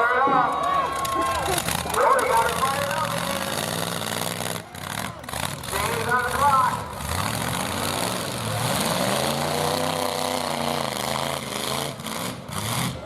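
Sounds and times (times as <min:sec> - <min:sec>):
pickup truck engines running: 0:00.0 - 0:13.0
engine revving: 0:01.5 - 0:13.0.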